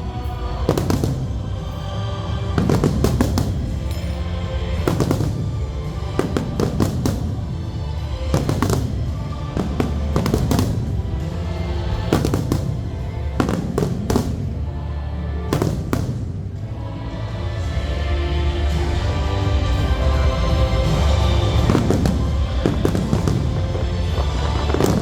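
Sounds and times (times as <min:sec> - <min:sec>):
fireworks bangs: 0:00.0 - 0:14.8, 0:15.5 - 0:16.8, 0:18.7 - 0:25.0
loud music: 0:00.0 - 0:25.0.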